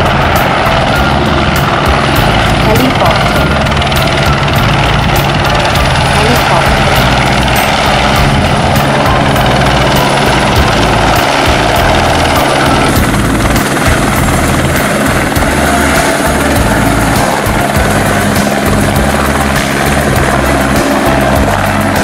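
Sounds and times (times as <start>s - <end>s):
helicopter rotor beat: 0.0s - 22.0s
turbine running noise: 0.0s - 22.0s.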